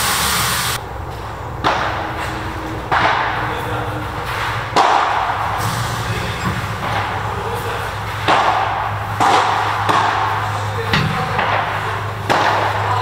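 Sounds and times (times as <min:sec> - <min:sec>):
rackets hitting ball: 0:01.1 - 0:13.0.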